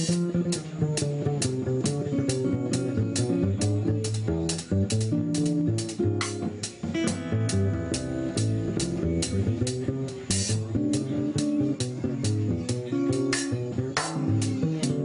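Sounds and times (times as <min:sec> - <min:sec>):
drum kit cymbal beat: 0:00.0 - 0:15.0
guitar: 0:00.0 - 0:15.0
plucked double bass: 0:00.0 - 0:15.0.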